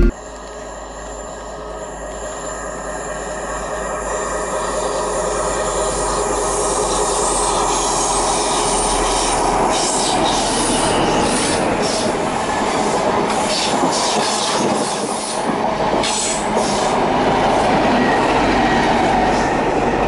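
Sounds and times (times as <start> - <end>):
train wheel noise on rails: 0.0 - 20.0.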